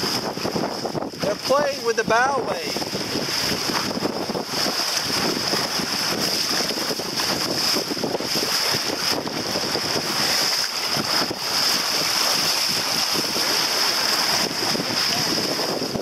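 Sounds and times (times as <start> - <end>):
bow wave splashing along hull: 0.0 - 16.0
wind buffeting microphone: 0.0 - 16.0.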